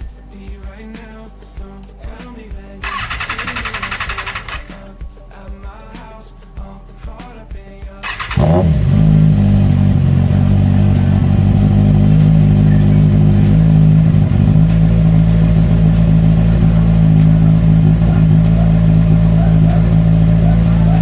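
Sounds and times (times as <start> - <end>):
motorcycle engine cranking and idling: 1.7 - 5.0, 7.0 - 21.0.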